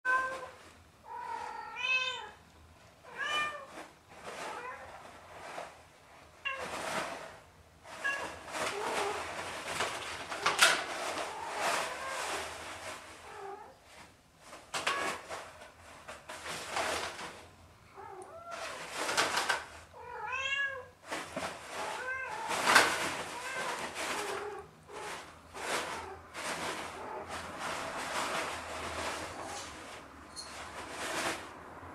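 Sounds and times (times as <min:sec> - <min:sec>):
toilet paper rustling and crinkling: 0:03.1 - 0:31.9.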